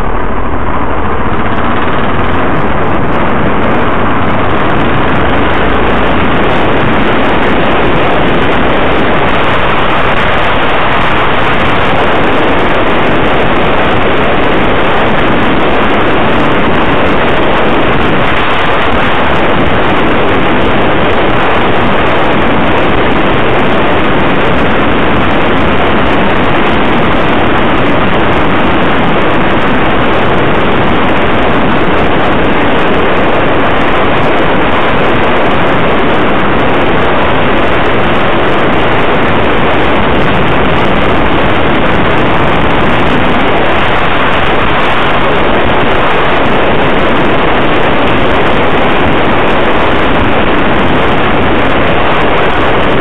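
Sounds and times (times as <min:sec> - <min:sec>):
road and engine noise: 0:00.0 - 0:53.0
wind on microphone: 0:00.0 - 0:53.0.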